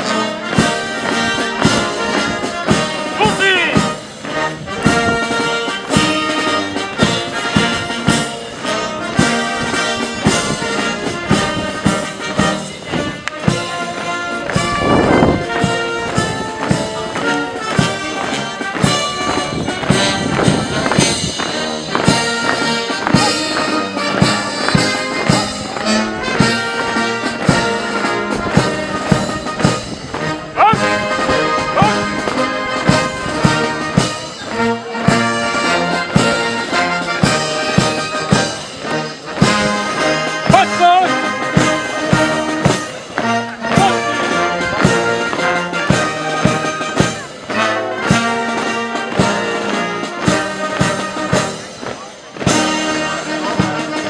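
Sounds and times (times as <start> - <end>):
brass band playing a march: 0.0 - 54.0.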